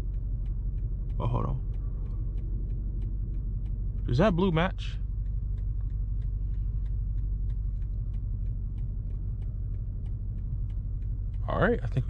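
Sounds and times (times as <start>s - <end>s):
car engine idling: 0.0s - 12.0s
faint light ticking: 0.0s - 12.0s.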